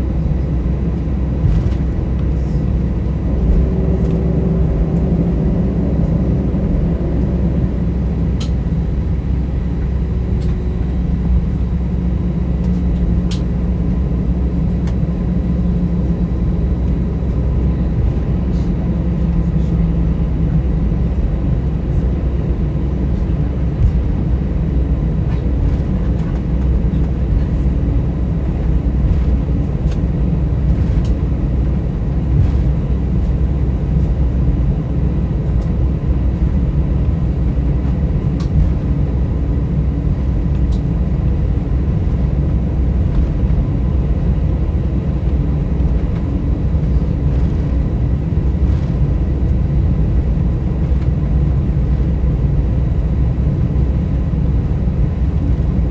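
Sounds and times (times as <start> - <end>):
engines idling rumble: 0.0 - 55.9.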